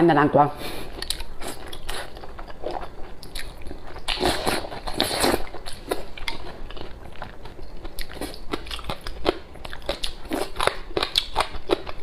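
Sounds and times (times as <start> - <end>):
crunchy chewing: 0.9 - 12.0.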